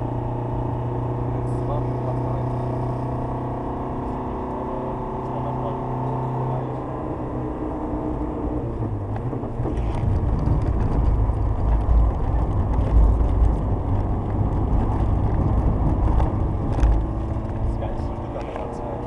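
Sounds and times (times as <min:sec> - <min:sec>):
road and tyre noise: 0:00.0 - 0:19.0.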